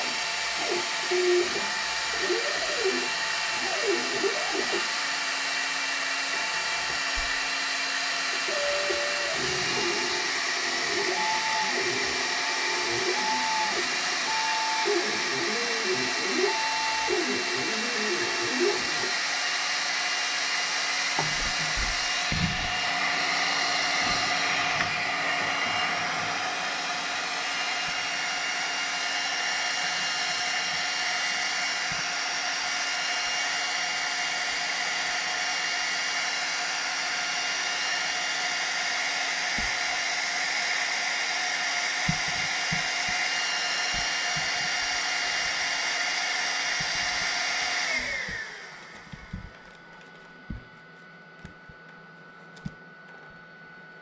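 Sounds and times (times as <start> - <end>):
blower fans whining: 0.0 - 54.0.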